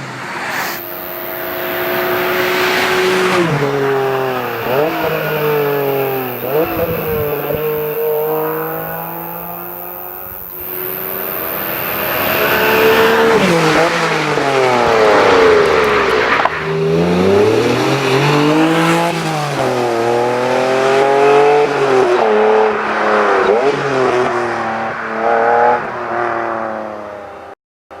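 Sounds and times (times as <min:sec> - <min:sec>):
car engine revving: 0:00.4 - 0:24.5.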